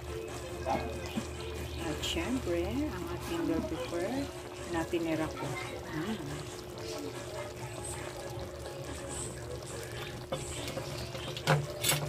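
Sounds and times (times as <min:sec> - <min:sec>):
stew simmering and bubbling: 0:00.0 - 0:12.0.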